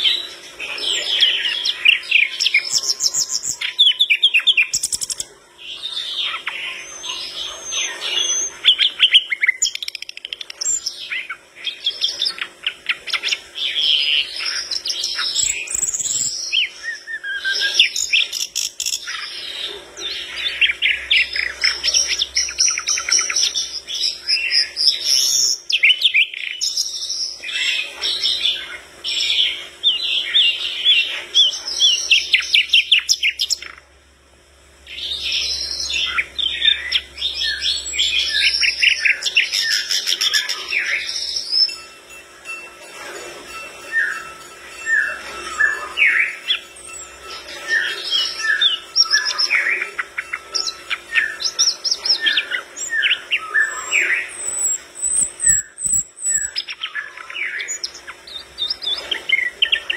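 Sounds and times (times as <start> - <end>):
bird singing chattering trills: 0.0 - 33.9, 34.7 - 59.9.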